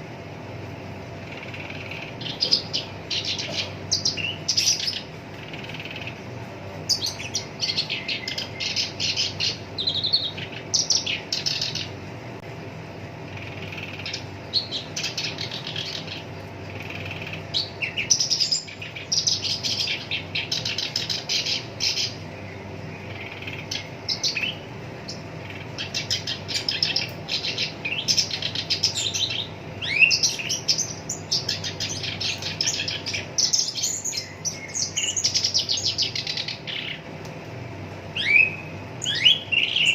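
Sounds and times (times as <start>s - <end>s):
faint low hum: 0.0s - 39.9s
warbler chattering song: 0.0s - 39.9s.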